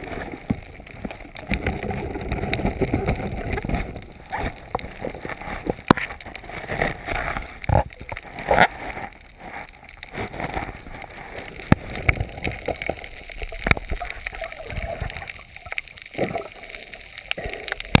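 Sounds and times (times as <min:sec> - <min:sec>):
water sloshing and gurgling: 0:00.0 - 0:18.0.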